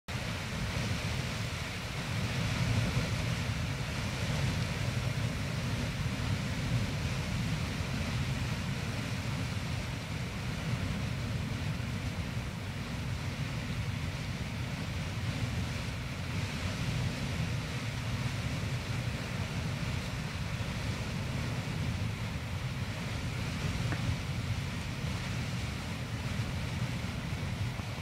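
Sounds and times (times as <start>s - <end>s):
geyser steam jetting: 0.1s - 28.0s.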